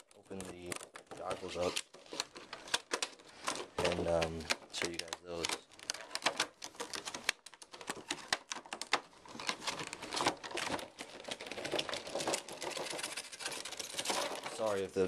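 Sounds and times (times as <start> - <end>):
packaging clicking and rustling: 0.0 - 15.0.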